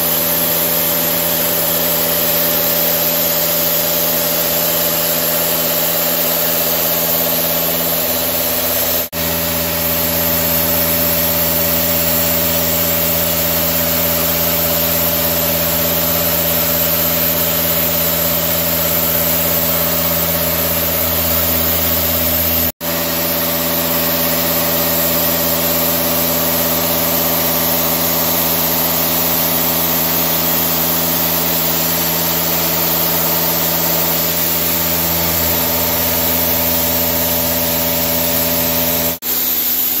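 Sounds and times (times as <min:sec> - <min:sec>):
turning lathe machine hum: 0:00.0 - 0:39.5.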